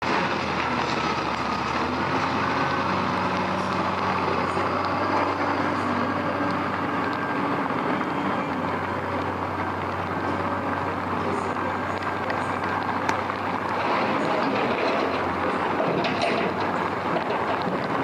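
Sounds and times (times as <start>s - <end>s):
heavy machinery running: 0.0s - 18.0s.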